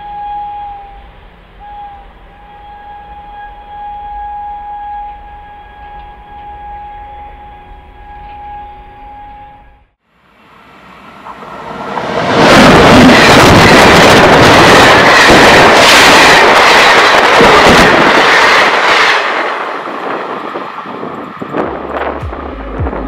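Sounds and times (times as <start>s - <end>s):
passenger train passing at speed: 0.0s - 23.0s.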